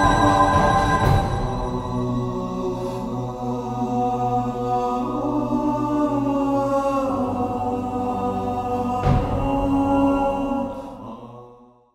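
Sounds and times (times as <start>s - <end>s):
droning music of held chords: 0.0s - 11.1s.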